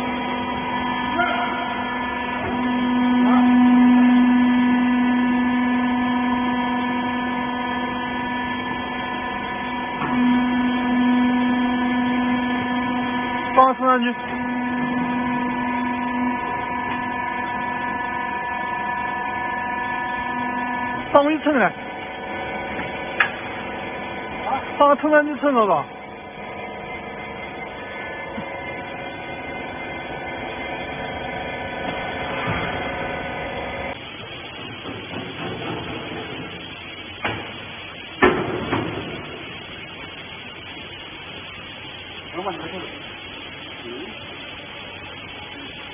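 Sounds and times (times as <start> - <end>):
baler machine hum: 0.0 - 45.9.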